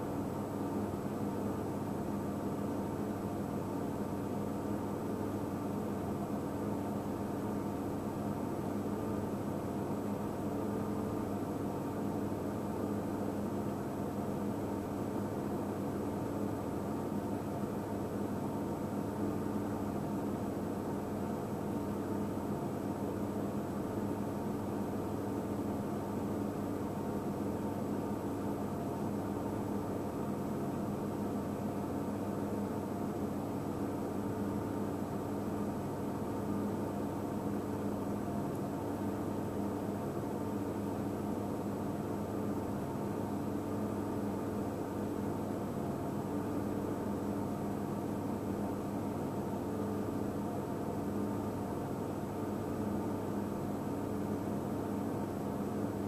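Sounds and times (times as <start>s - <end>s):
mechanical hum with hiss: 0.0s - 56.0s.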